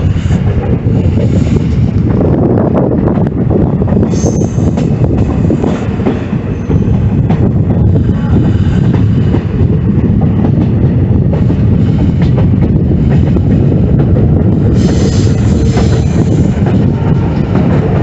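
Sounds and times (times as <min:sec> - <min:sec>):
rail joints clicking: 0:00.0 - 0:18.0
train wheels rumbling on rails: 0:00.0 - 0:18.0.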